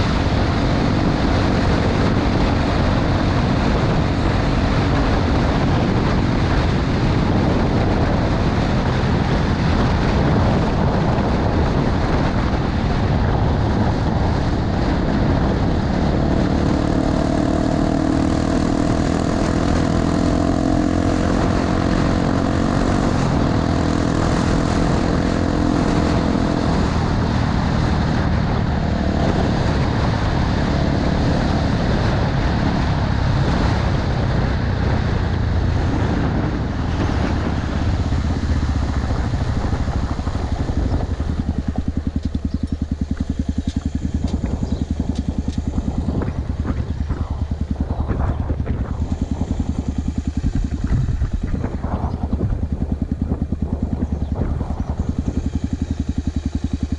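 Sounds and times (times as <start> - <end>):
motorcycle engine running: 0.0 - 56.9
wind noise: 0.0 - 56.9.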